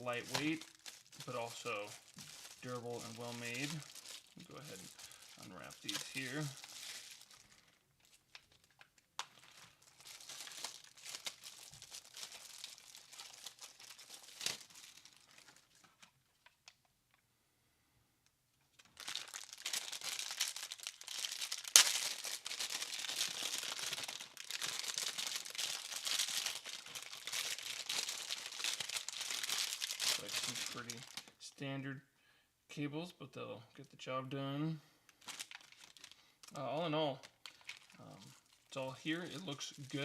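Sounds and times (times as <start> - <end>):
wrapping crinkling and crumpling: 0.0 - 17.2, 18.7 - 31.4, 35.1 - 40.0.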